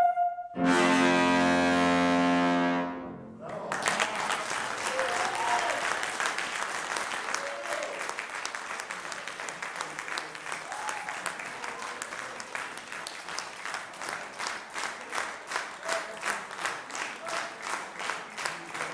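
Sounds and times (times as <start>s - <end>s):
audience applauding: 3.4s - 18.9s
rhythmic clapping in unison: 3.4s - 18.9s.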